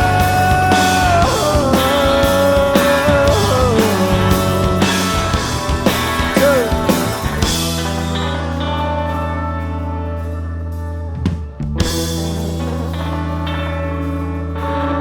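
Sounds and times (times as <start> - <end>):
drums and cymbals: 0.0 - 14.4
bending lead guitar line: 0.0 - 15.0
live rock band playing: 0.0 - 15.0.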